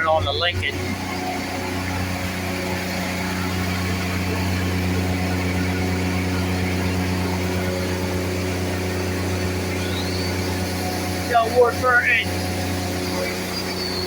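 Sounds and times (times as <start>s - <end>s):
welding machine engine running: 0.0s - 14.0s.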